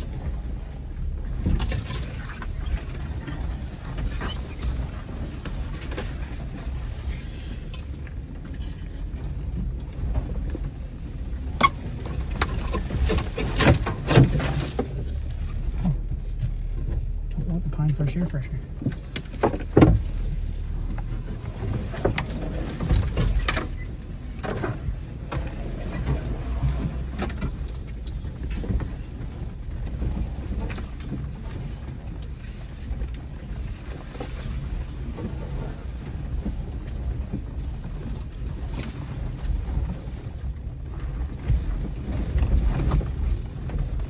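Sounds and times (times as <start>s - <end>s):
vehicle knocks and scrapes: 0.0s - 17.4s, 18.7s - 44.0s
low engine rumble: 0.0s - 44.0s.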